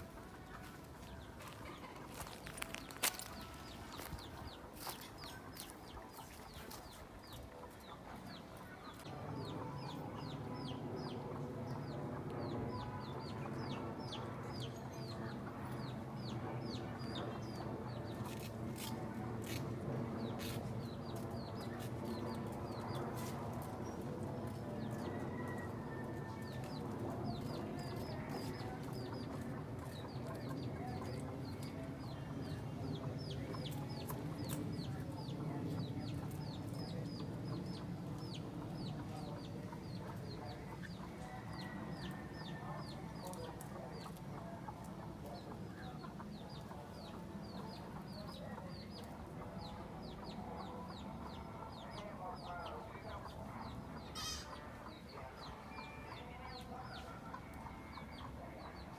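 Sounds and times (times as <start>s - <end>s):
chickens clucking: 0.0s - 12.6s, 13.3s - 58.9s.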